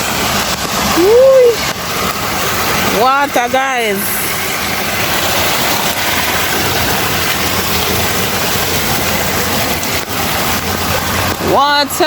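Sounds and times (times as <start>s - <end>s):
rain: 0.0s - 12.0s
running floodwater: 0.0s - 12.0s.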